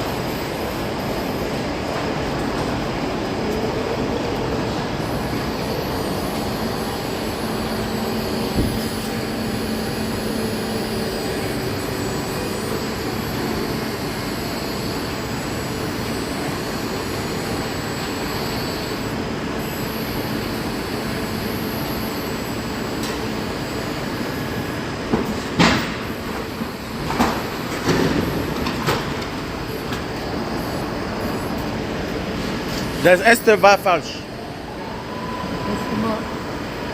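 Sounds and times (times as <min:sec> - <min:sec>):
heavy machinery running: 0:00.0 - 0:36.9.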